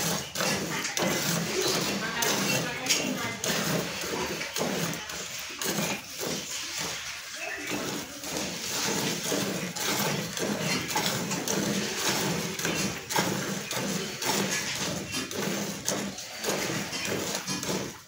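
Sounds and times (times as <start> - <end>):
milk squirting into metal bucket: 0.0 - 18.0.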